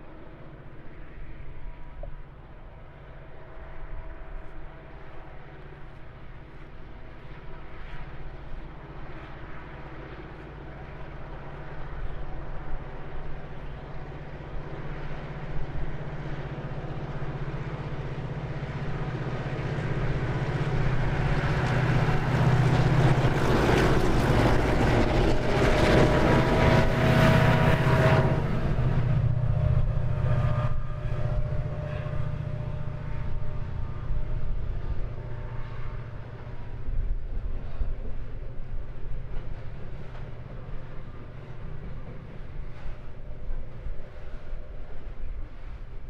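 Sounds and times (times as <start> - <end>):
diesel locomotive engine hum: 0.0 - 46.0.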